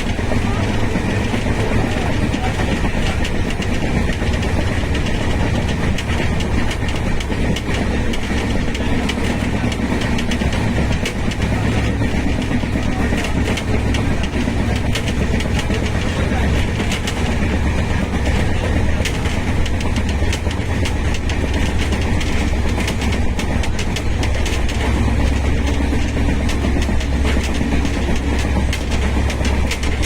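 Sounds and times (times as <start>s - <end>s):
train rumbling on rails: 0.0s - 30.0s
wheels clicking over rail joints: 0.0s - 30.0s.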